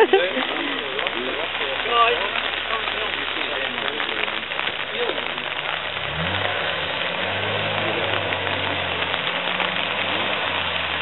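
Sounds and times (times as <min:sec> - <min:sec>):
rushing water hiss: 0:00.0 - 0:11.0
vehicle engine revving: 0:01.5 - 0:11.0.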